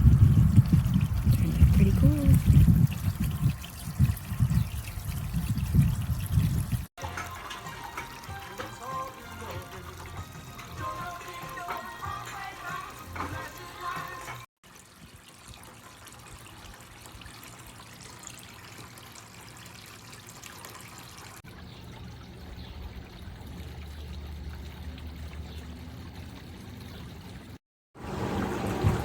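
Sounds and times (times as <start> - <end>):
fountain water trickling: 0.0 - 29.0.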